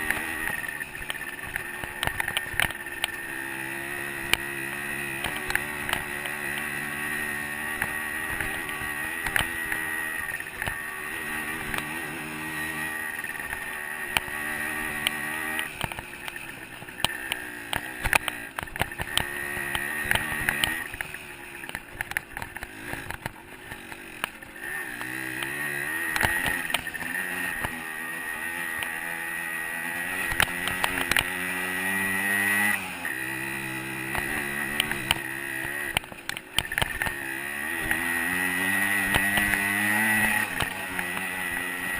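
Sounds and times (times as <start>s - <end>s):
sharp clicks and knocks: 0.0s - 3.3s, 4.1s - 27.8s, 30.1s - 31.6s, 33.5s - 41.9s
dirt bike engine revving: 0.0s - 41.9s.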